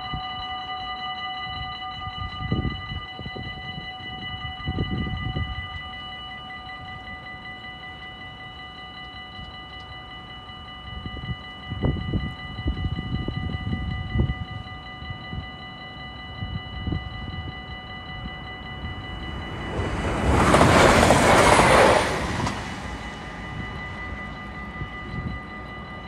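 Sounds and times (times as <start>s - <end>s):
level crossing warning bell: 0.0s - 26.0s.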